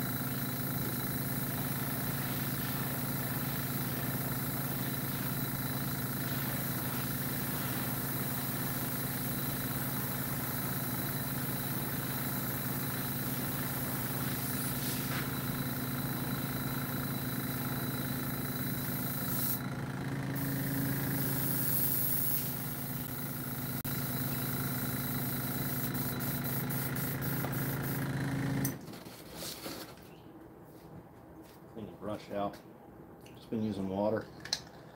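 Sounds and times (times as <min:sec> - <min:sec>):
air compressor motor humming: 0:00.0 - 0:28.8.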